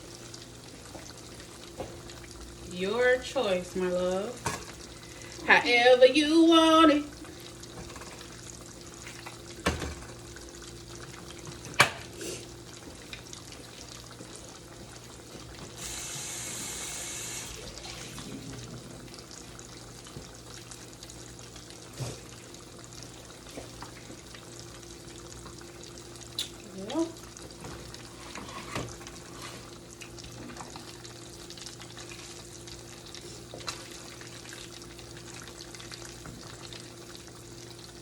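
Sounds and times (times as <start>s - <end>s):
kitchen tap running: 0.8s - 38.0s.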